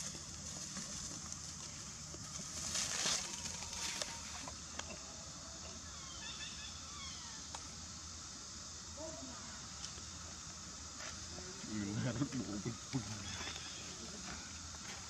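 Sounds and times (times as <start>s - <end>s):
rustling of dry leaves: 0.0s - 5.7s, 8.6s - 15.0s.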